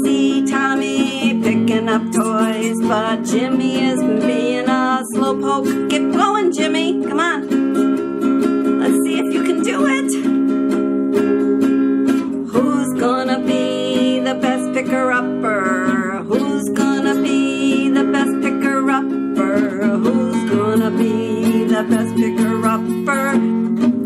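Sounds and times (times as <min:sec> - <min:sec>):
woman singing or humming: 0:00.0 - 0:07.5, 0:08.8 - 0:10.4, 0:12.5 - 0:23.5
guitar strummed: 0:00.0 - 0:24.0.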